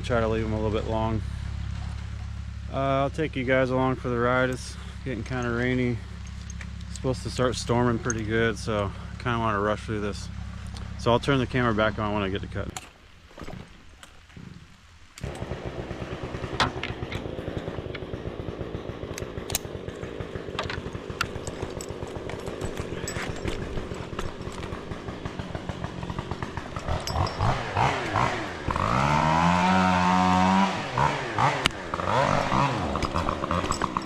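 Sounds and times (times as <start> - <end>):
chainsaw idling and revving: 0.0 - 12.6, 15.2 - 34.0.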